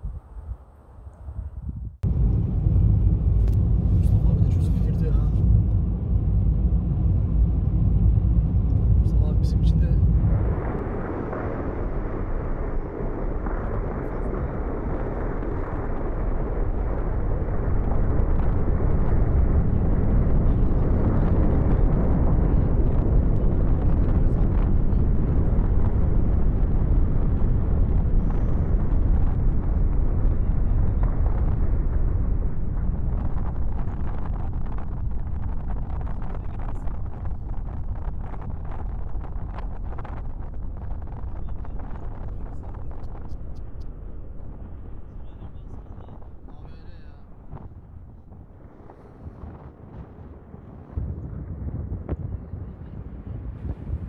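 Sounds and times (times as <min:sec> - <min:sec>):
lava fountain rushing rumble: 0:01.3 - 0:54.0.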